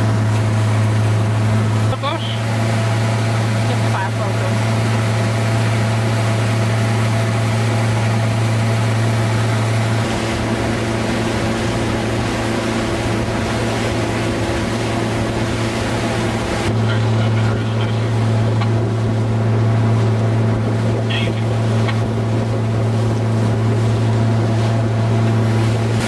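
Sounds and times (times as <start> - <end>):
motorboat engine droning: 0.0 - 26.0
water rushing from wake: 0.0 - 26.0.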